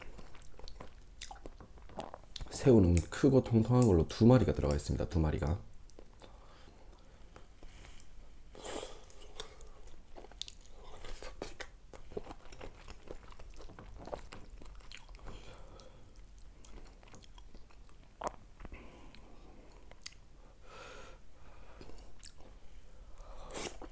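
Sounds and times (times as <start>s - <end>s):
person chewing food: 0.0s - 3.1s, 5.8s - 20.3s, 21.7s - 23.9s.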